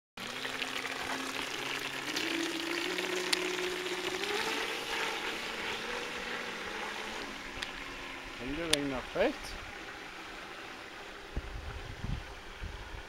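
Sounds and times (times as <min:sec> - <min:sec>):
electric motor whine: 0:00.2 - 0:13.0.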